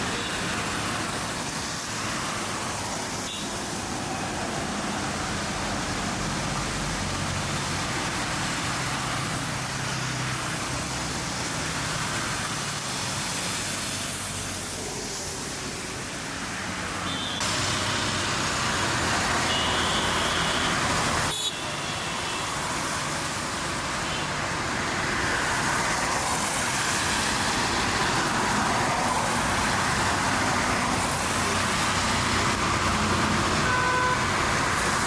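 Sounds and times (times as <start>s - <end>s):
road traffic: 0.0s - 35.0s.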